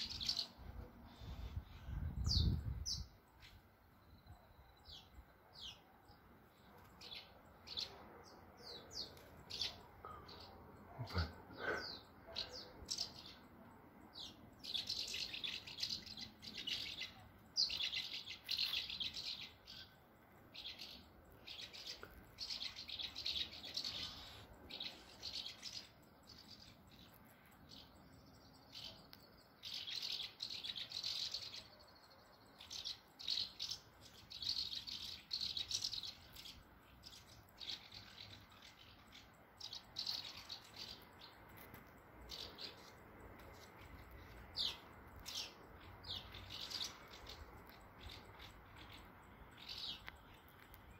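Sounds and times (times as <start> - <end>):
swallows twittering: 0.0 - 13.5, 14.1 - 41.6, 42.2 - 50.9.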